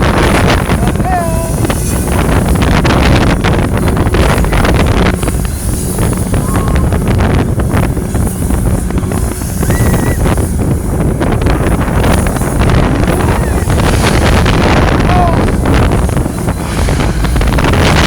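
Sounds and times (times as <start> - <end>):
ride low rumble: 0.0 - 18.0
wind buffeting microphone: 0.0 - 18.0.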